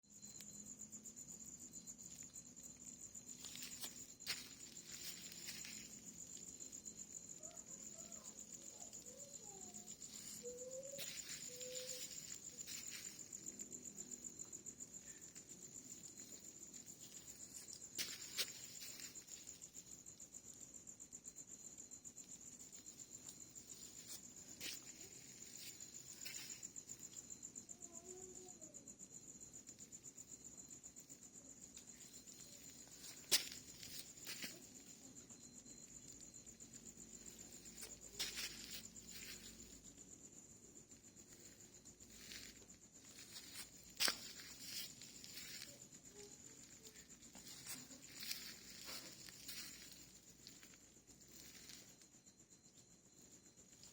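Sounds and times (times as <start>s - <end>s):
cricket trilling: 0.0s - 53.9s.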